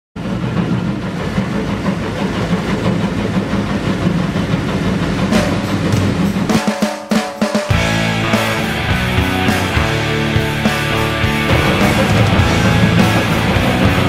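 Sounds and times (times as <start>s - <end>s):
boat engine droning: 0.2s - 6.7s, 7.7s - 14.0s
water churning past hull: 0.2s - 6.7s, 8.7s - 14.0s.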